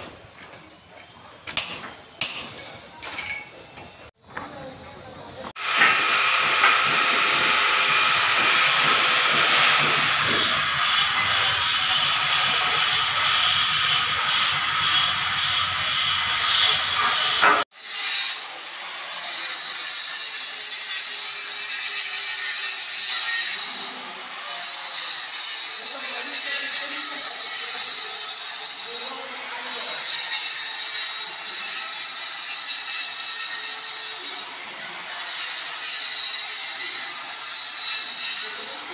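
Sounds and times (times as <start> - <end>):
electric grinder cutting a wall: 5.5 - 38.9.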